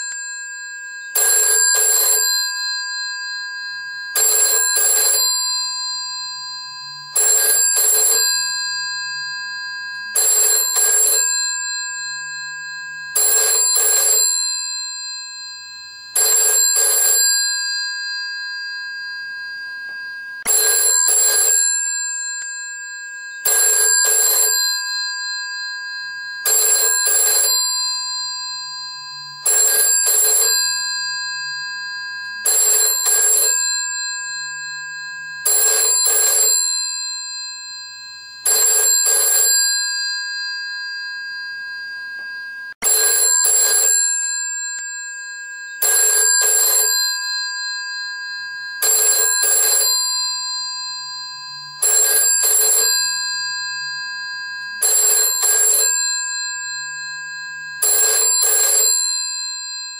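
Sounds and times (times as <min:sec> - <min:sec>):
telephone bell ringing: 0:00.0 - 0:59.9.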